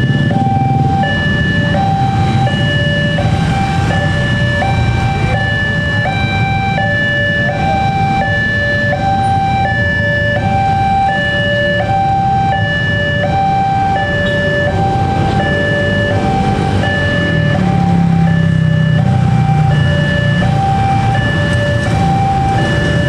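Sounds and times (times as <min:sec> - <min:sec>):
level crossing two-tone alarm: 0:00.0 - 0:23.0
low traffic rumble: 0:00.0 - 0:23.0.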